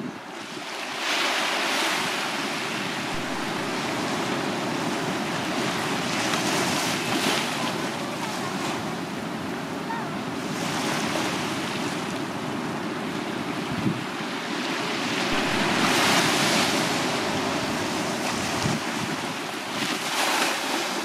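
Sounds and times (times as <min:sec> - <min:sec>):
small waves breaking on beach: 0:00.0 - 0:21.0.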